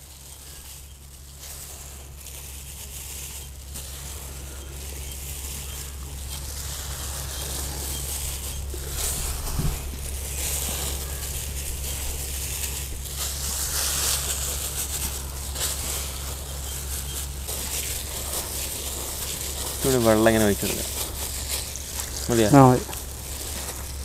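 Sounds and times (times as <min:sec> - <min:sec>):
constant low hum: 0:00.0 - 0:24.0
hissing rustling background noise: 0:00.0 - 0:24.0.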